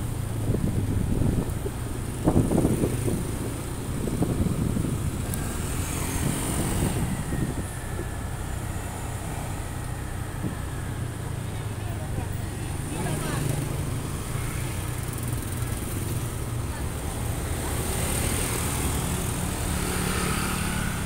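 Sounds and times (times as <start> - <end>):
motorbike traffic rumble: 0.0 - 21.0
motorbikes passing: 0.0 - 21.0.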